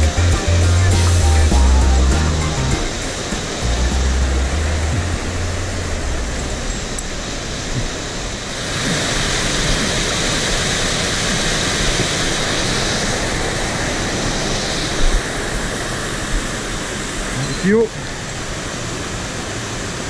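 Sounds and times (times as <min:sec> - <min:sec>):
rushing whitewater: 0:00.0 - 0:20.0.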